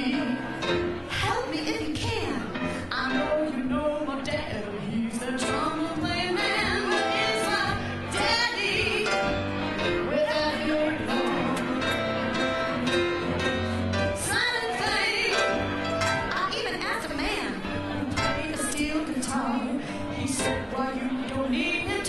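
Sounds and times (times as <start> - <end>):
woman singing into microphone: 0.0 - 9.4, 10.0 - 12.3, 14.2 - 22.0
piano: 0.0 - 22.0.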